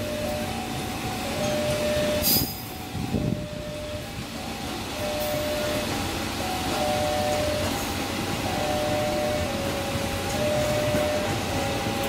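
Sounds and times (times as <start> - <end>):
electric train running: 0.0 - 12.0.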